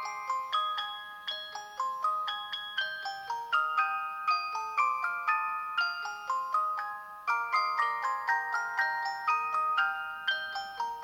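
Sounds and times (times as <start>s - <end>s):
bell-like phone ringtone: 0.0s - 11.0s.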